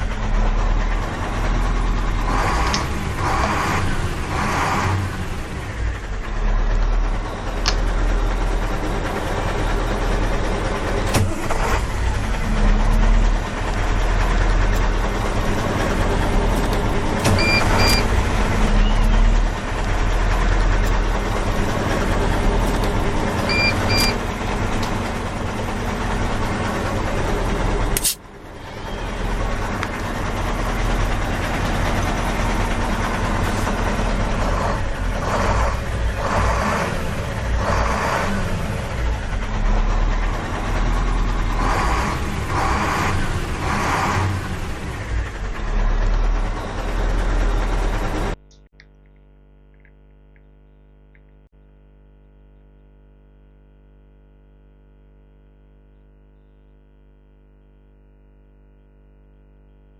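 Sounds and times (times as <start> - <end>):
vehicle engine running: 0.0 - 48.5.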